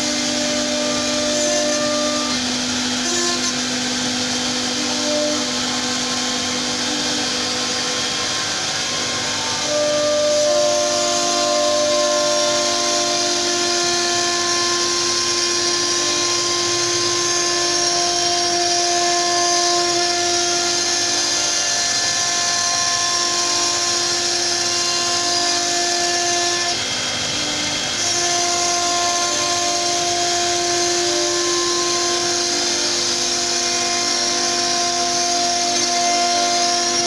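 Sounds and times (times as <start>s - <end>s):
router spindle whining cutting wood: 0.0s - 37.0s.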